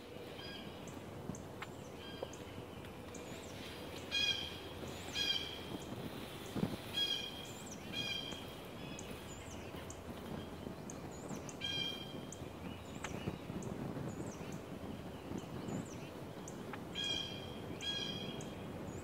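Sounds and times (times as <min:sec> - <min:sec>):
songbird chirps: 0:00.0 - 0:19.0.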